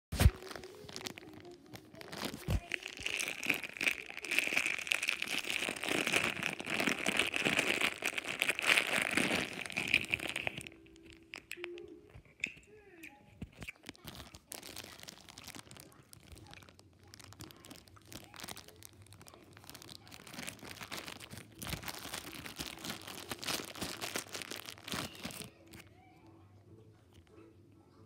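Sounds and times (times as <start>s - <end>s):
plastic bag crinkling: 0.2s - 25.9s.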